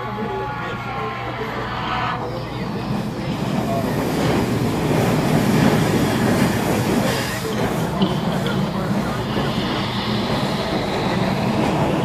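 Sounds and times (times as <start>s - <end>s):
model train running on trestle: 2.2s - 12.0s.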